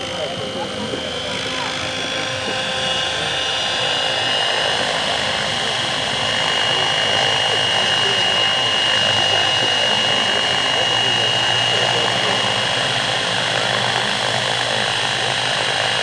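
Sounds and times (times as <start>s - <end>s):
model helicopter whine: 0.0s - 16.0s.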